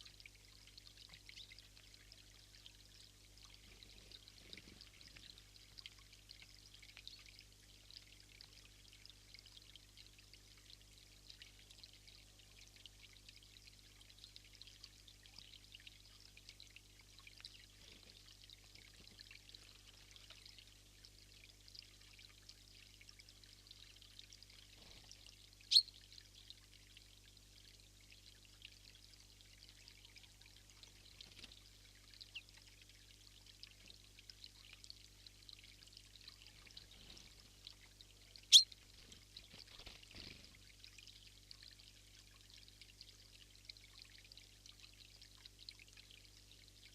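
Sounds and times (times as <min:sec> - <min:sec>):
low electrical hum: 0:00.0 - 0:46.9
trickle of running water: 0:00.0 - 0:46.9.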